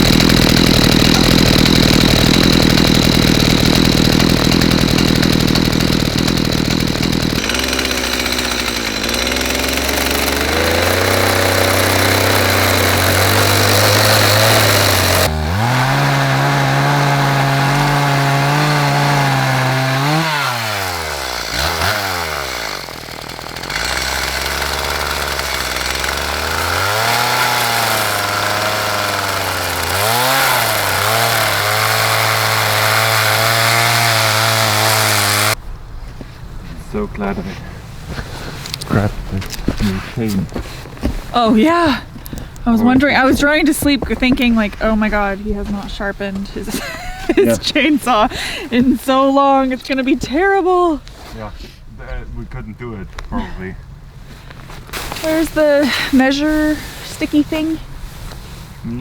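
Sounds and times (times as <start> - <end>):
chainsaw cutting wood: 0.0 - 35.6, 38.6 - 51.1, 54.9 - 57.8.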